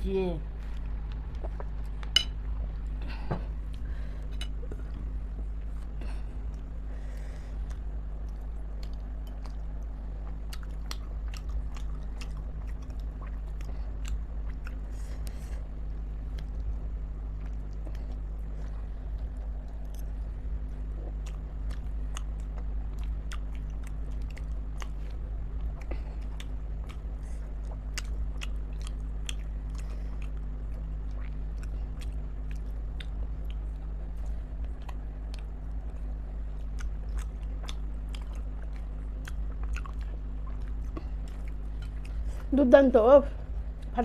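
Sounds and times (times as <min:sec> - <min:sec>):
steady low hum: 0:00.0 - 0:44.0
person chewing food: 0:00.6 - 0:42.5.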